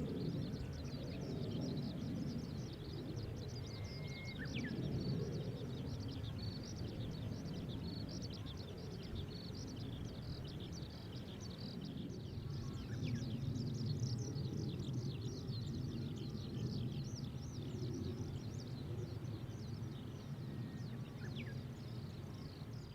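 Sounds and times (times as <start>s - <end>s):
many birds chirping: 0.0s - 22.9s.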